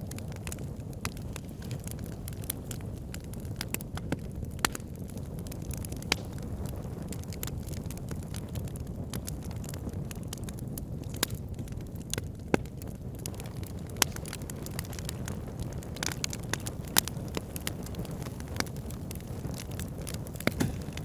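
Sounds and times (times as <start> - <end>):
fire flames rushing: 0.0 - 21.0
wood fire crackling and popping: 0.0 - 21.0.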